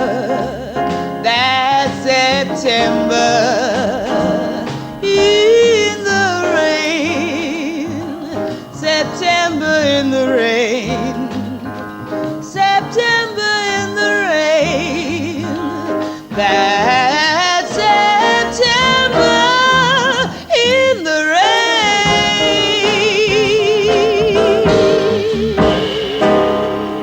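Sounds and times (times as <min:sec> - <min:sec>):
drums: 0:00.0 - 0:27.0
piano: 0:00.0 - 0:27.0
upright bass: 0:00.0 - 0:27.0
woman singing jazz: 0:00.0 - 0:27.0.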